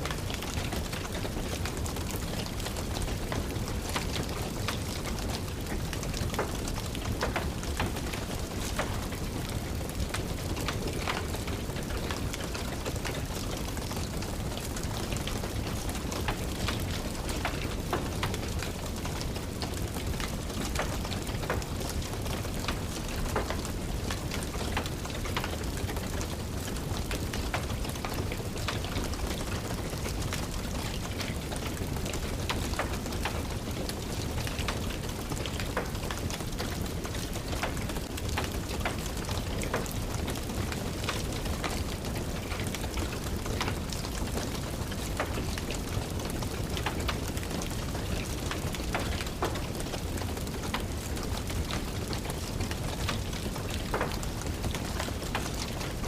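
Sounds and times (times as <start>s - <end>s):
steady rain hiss: 0.0s - 56.0s
wood fire crackling: 0.0s - 56.0s.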